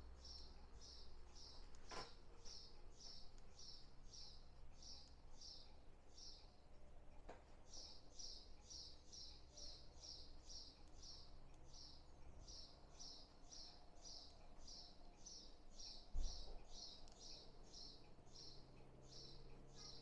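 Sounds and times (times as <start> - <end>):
bird chirping: 0.2 - 6.7, 7.6 - 20.0.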